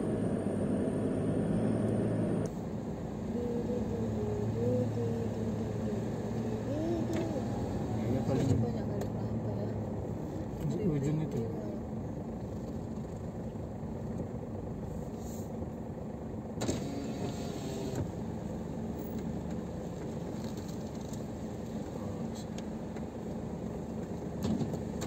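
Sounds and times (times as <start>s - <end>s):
engine and tyre rumble: 0.0s - 25.0s.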